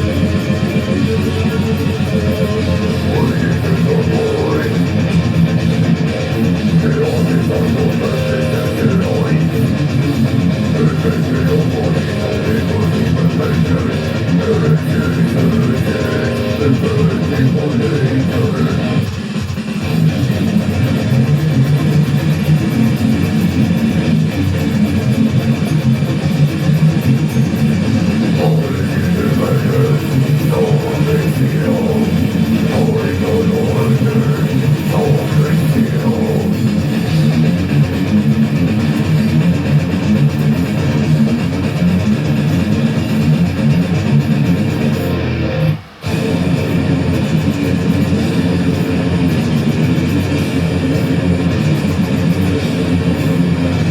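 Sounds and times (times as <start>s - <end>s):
guitar background music with beat: 0.0s - 53.9s.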